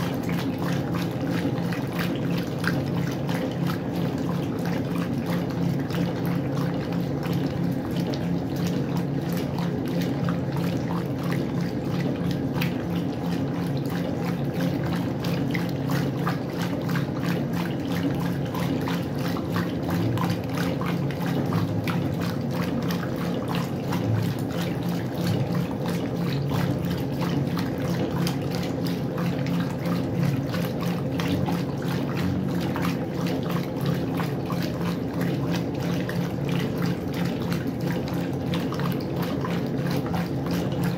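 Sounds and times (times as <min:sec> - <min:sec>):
washing machine motor hum: 0:00.0 - 0:40.9
washing machine water churning: 0:00.0 - 0:40.9.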